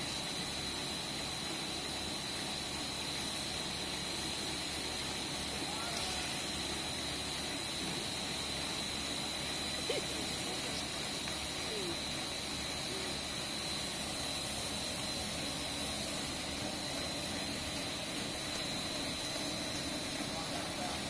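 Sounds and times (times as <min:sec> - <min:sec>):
machine noise with high whine: 0:00.0 - 0:21.0.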